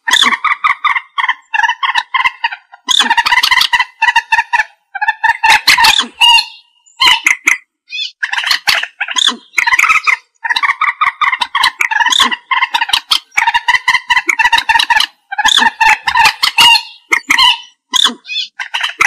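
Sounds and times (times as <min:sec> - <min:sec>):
moorhen harsh clucking calls: 0:00.0 - 0:19.0.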